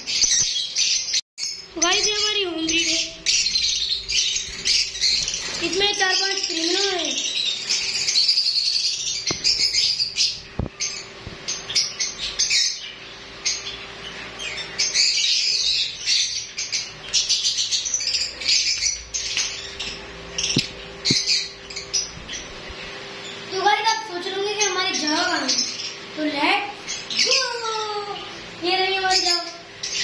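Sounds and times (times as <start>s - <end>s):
lovebirds chirping: 0.0s - 30.0s.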